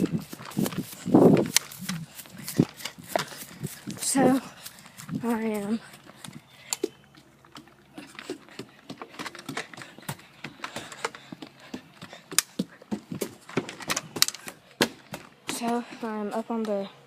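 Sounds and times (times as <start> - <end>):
footsteps climbing steps: 0.0 - 16.7.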